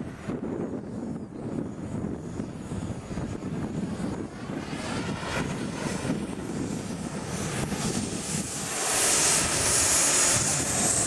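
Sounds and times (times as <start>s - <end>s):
model jet turbine whining: 0.0s - 11.0s.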